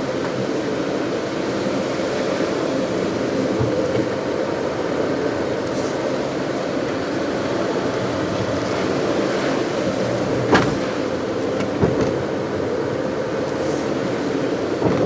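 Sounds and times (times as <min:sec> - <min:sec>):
car driving on wet road: 0:00.0 - 0:15.0.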